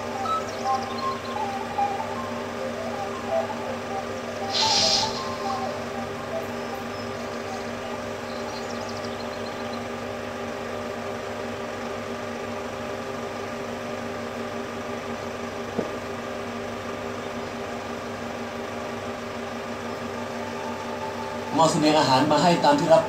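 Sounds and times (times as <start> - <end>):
film projector whirring: 0.0 - 23.0.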